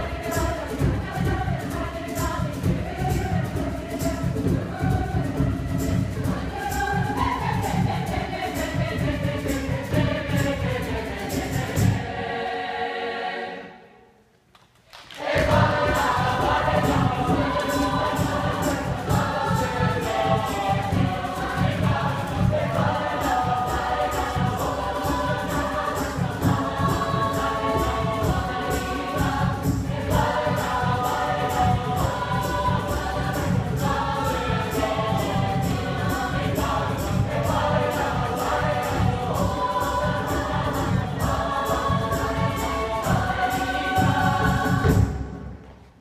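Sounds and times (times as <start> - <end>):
mixed choir singing: 0.0 - 14.2, 15.0 - 45.6.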